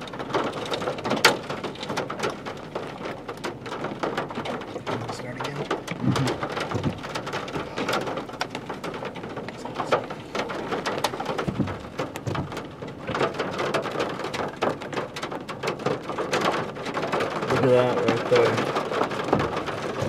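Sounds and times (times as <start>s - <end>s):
raindrops tapping: 0.0s - 20.0s
steady rain hiss: 0.0s - 20.0s.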